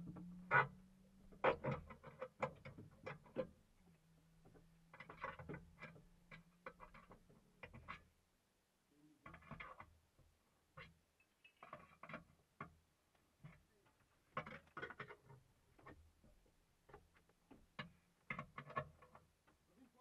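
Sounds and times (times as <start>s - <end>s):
faint clanks and knocks of tools: 0.0s - 8.2s, 9.2s - 20.0s.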